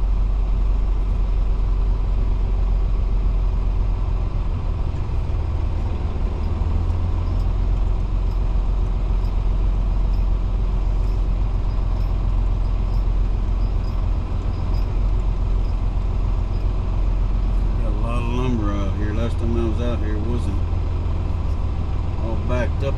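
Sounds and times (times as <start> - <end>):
diesel truck engine rumbling: 0.0 - 22.9.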